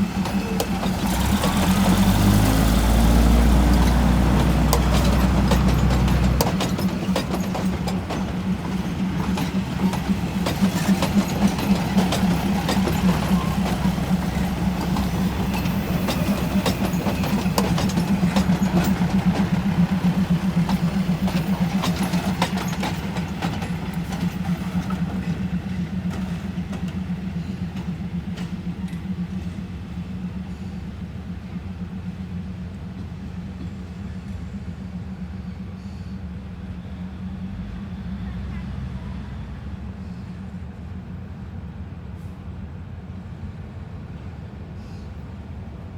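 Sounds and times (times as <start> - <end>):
diesel train engine drone: 0.0 - 45.9.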